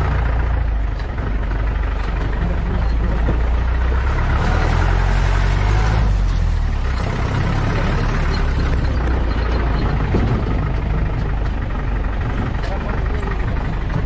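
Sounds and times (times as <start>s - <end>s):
off-road vehicle engine running: 0.0s - 14.0s
road noise: 0.0s - 14.0s.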